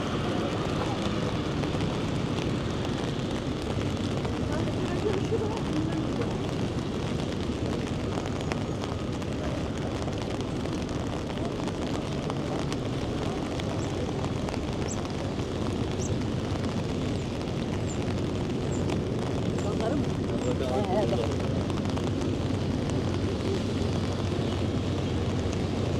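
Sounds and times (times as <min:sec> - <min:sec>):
low rumble of engine noise: 0:00.0 - 0:25.9.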